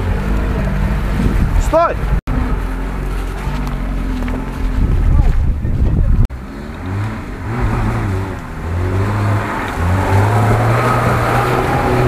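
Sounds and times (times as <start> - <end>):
engine revving unevenly: 0.0 - 12.0.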